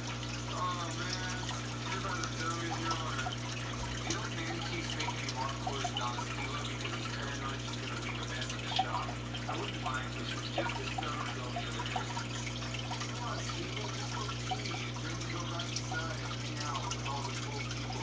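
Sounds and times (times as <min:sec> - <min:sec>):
aquarium filter hum: 0:00.0 - 0:18.0
water trickling and dripping: 0:00.0 - 0:18.0.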